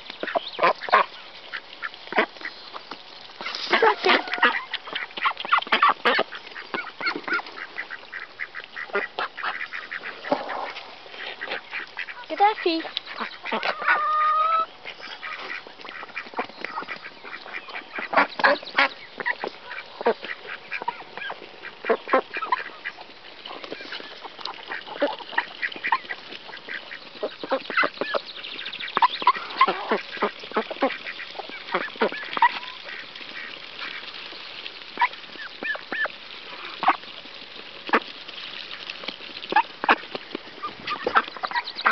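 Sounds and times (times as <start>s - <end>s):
duck bills pecking grain: 0.0s - 41.9s
ducks quacking: 0.2s - 2.6s, 3.4s - 34.1s, 39.5s - 41.9s.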